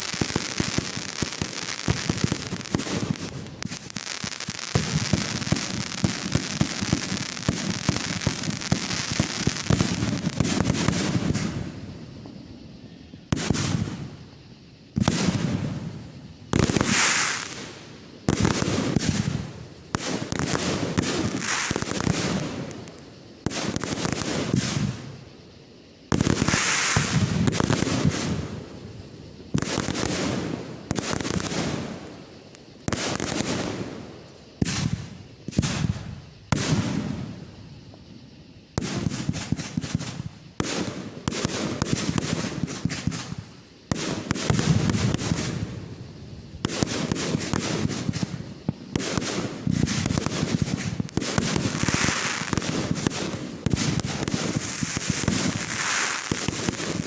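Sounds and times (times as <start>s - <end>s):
fireworks loud bursts: 0.0s - 12.4s, 13.3s - 14.3s, 15.0s - 25.3s, 26.1s - 38.1s, 38.8s - 57.0s
fireworks crackling: 0.0s - 25.4s, 26.0s - 57.0s.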